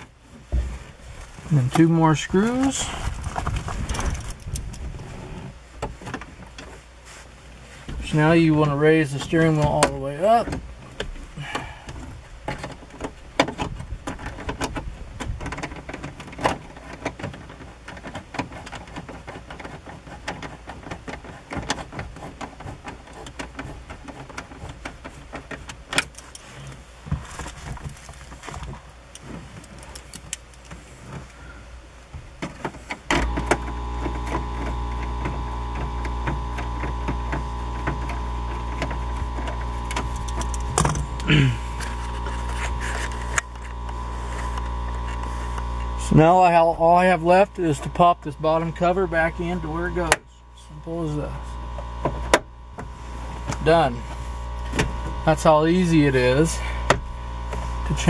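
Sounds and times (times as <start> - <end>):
low hum with held tones: 0.0 - 58.0.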